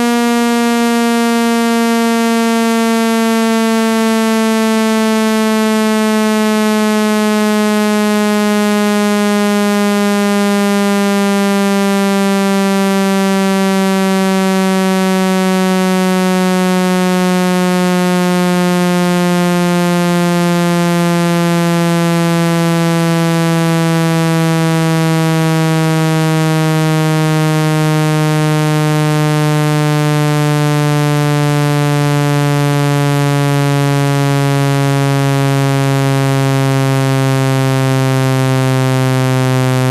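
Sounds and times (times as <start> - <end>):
buzzy electronic tone sliding down: 0.0 - 39.9.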